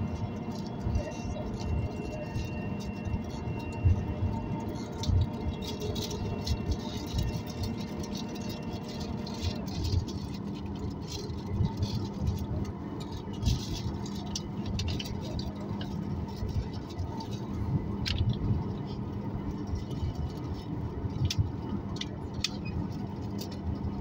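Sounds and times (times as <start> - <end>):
airplane cabin rumble: 0.0 - 24.0
steady hum: 0.0 - 24.0.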